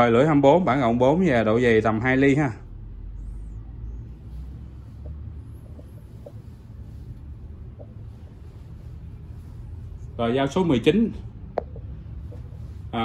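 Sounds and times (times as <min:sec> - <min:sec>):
low background rumble: 0:00.8 - 0:13.0.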